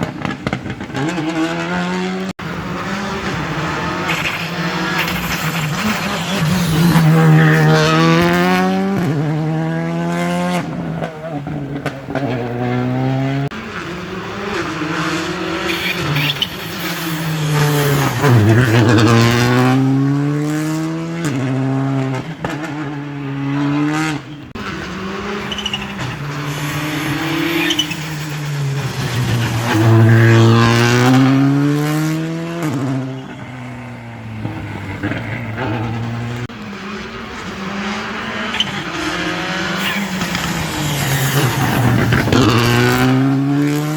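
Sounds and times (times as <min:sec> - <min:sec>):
rally car engines at full throttle: 0:00.0 - 0:43.9.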